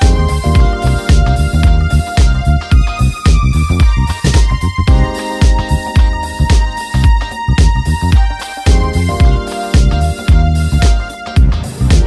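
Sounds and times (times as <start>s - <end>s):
music with steady bass beat: 0.0s - 12.0s.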